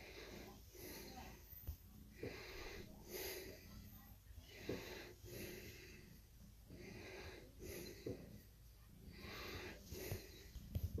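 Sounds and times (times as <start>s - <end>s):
slow breathing: 0.0s - 11.0s.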